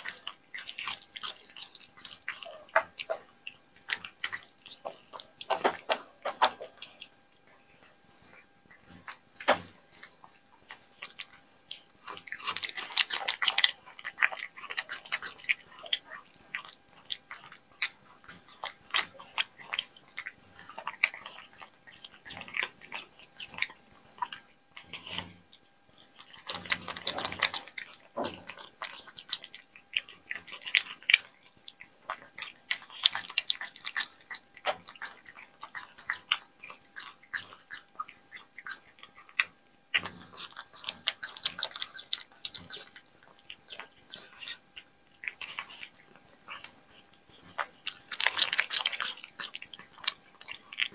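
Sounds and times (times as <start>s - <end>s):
cat chewing raw meat: 0.0s - 50.9s.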